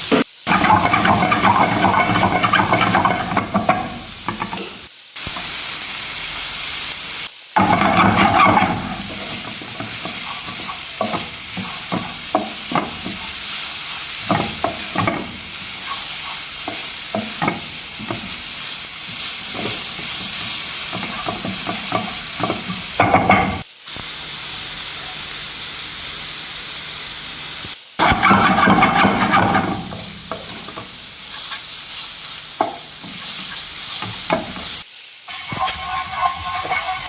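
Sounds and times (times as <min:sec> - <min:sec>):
food sizzling in a pan: 0:00.0 - 0:37.0
spatula scraping a pan: 0:00.5 - 0:05.6, 0:07.6 - 0:23.6, 0:28.0 - 0:37.0.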